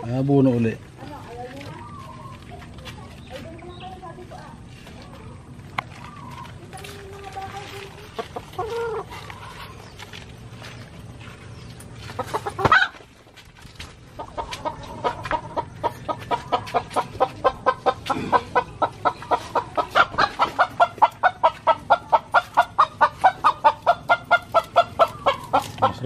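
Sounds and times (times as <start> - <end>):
chicken clucking: 0.0 - 26.0.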